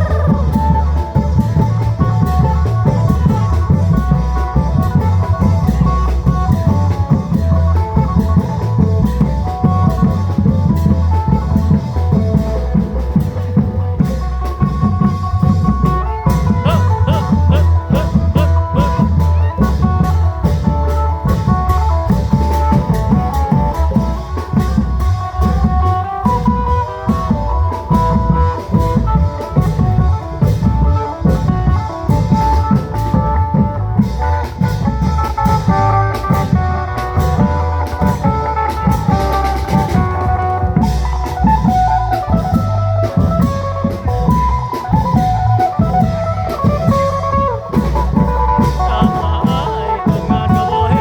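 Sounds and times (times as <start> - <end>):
dense drum rhythm: 0.0 - 51.0.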